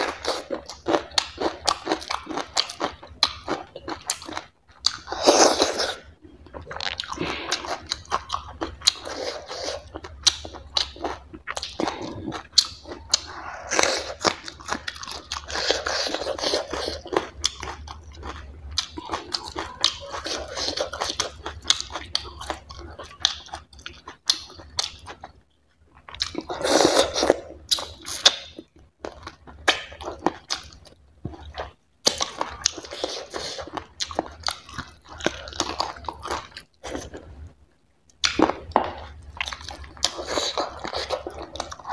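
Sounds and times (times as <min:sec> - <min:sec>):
person chewing and lip-smacking: 0:00.0 - 0:37.5, 0:38.1 - 0:41.9.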